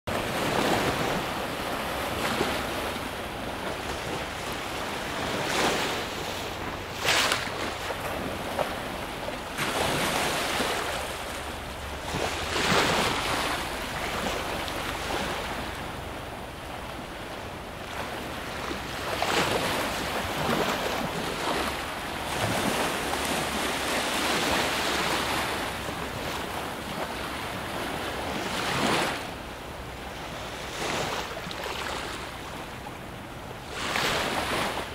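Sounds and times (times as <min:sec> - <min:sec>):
small waves washing over shallows: 0:00.1 - 0:34.9.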